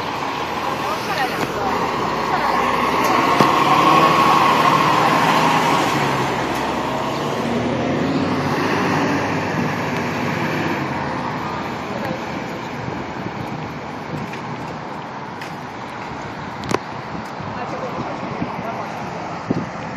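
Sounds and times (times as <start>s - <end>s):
fire engine driving off: 0.0s - 19.9s.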